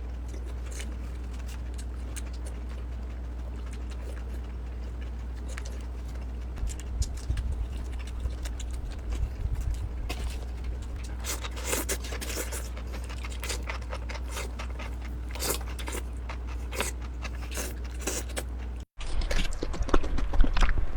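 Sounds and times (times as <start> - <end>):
low hum: 0.0 - 18.0
crunchy eating and chewing: 0.0 - 20.9.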